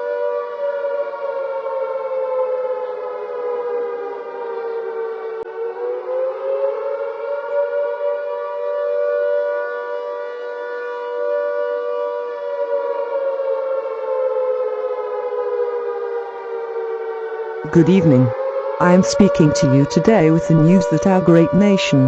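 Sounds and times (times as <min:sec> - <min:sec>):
air-raid siren wailing: 0:00.0 - 0:22.0.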